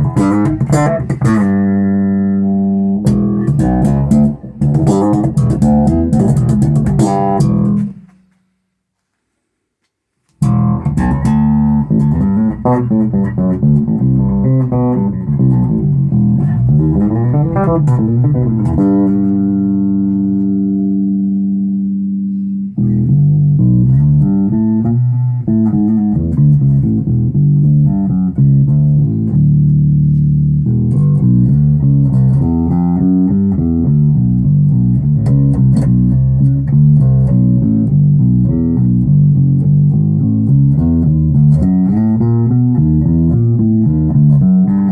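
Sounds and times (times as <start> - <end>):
electric bass plucked notes: 0.0 - 8.2, 10.4 - 44.9.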